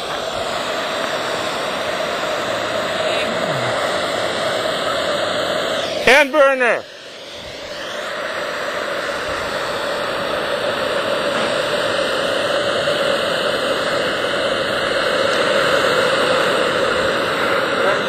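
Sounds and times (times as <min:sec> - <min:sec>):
rocket motor hissing: 0:00.0 - 0:18.0.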